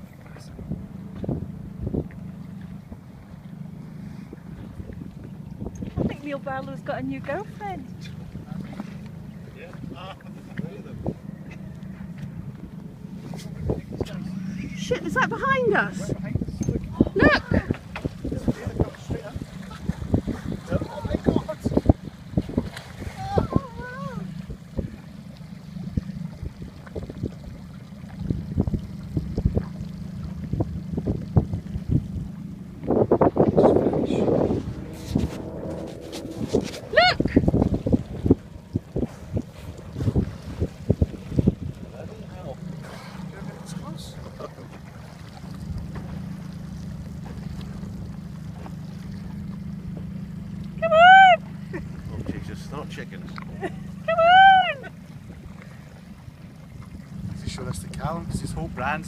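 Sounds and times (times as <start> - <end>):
boat engine low rumble: 0.0 - 59.0
water slapping against hull: 0.0 - 59.0
wind: 0.0 - 59.0.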